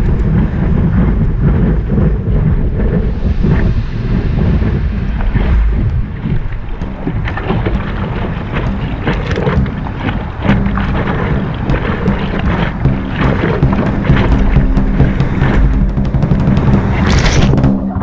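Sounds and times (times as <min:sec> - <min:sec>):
paddle slapping water: 0:00.0 - 0:18.0
water rushing and splashing: 0:00.0 - 0:18.0
wind buffeting microphone: 0:00.0 - 0:18.0.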